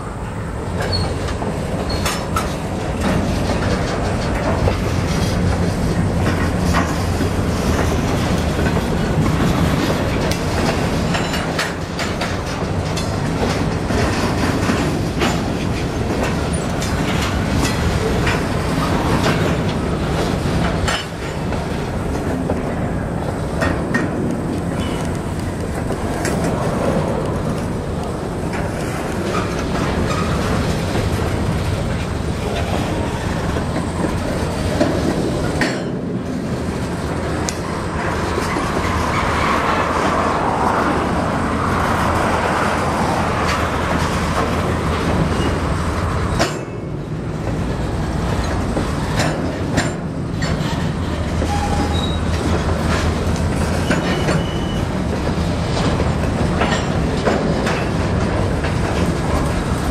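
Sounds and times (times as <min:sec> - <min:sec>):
freight train rolling past: 0:00.0 - 0:59.9
wheels clicking over rail joints: 0:00.6 - 0:59.9.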